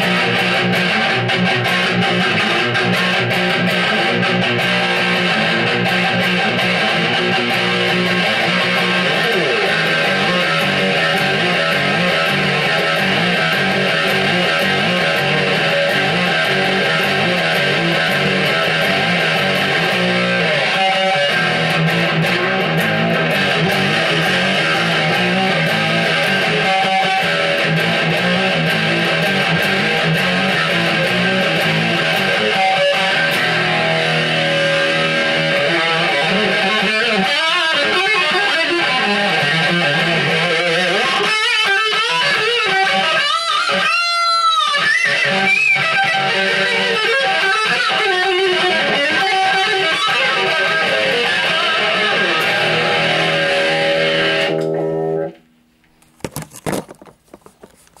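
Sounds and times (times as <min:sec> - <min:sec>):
heavy metal electric guitar riffing: 0:00.0 - 0:55.4.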